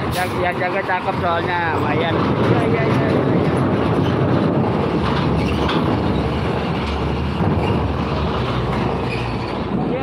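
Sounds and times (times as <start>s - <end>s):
diesel engine under load: 0.0s - 10.0s
tyres rumbling over steel grating: 0.0s - 10.0s.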